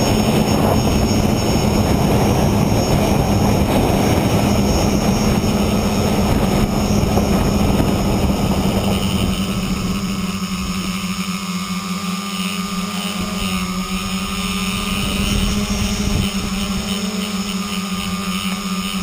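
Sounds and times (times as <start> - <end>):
wind on microphone: 0.0 - 11.2, 12.5 - 19.0
drone motors and propellers buzzing: 0.0 - 19.0.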